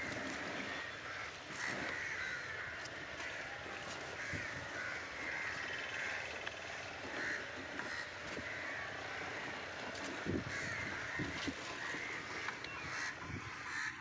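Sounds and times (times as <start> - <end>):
bird calling: 0.0 - 14.0.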